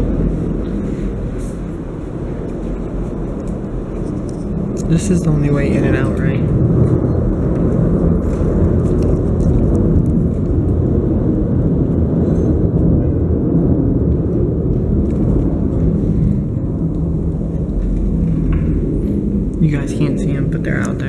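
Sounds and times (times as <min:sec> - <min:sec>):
loud low rumbling: 0:00.0 - 0:21.0.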